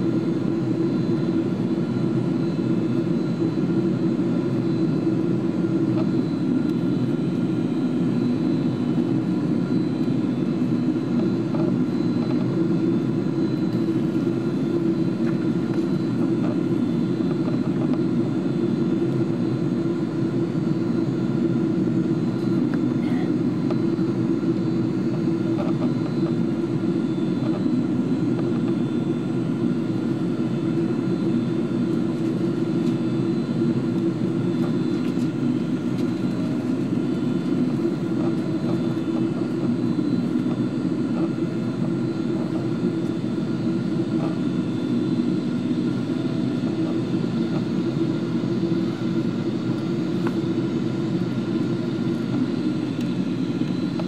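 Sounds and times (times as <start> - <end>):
airliner cabin low rumble: 0.0 - 54.0.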